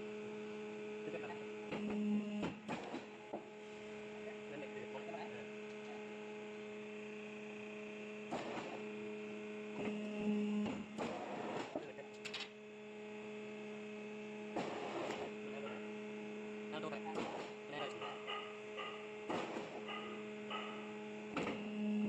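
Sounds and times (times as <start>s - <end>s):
electric machine hum: 0.0s - 22.0s.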